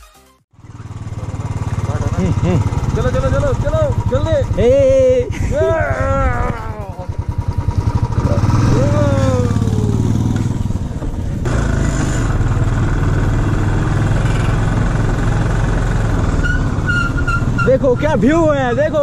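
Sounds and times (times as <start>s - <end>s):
motorcycle engine: 0.5s - 19.0s.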